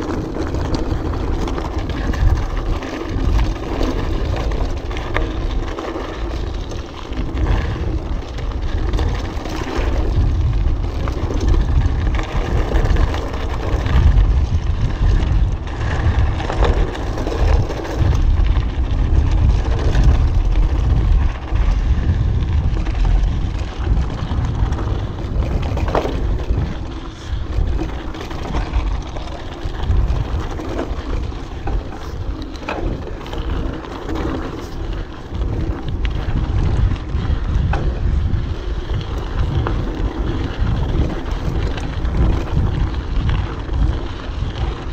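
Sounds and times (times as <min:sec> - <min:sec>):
bike clicks and knocks: 0:00.0 - 0:44.9
wind buffeting microphone: 0:00.0 - 0:44.9.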